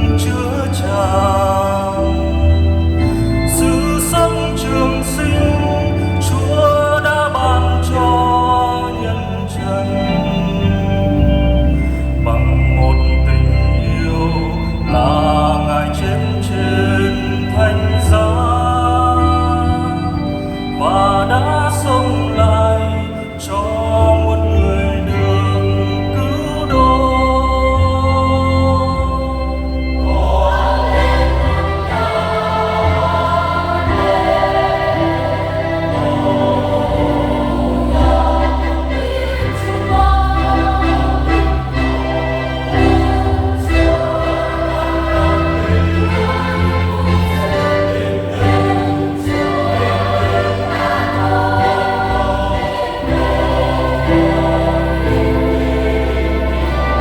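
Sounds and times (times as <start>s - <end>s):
choir singing a hymn: 0.0s - 57.0s
instrumental accompaniment: 0.0s - 57.0s
steady bass notes: 0.0s - 57.0s.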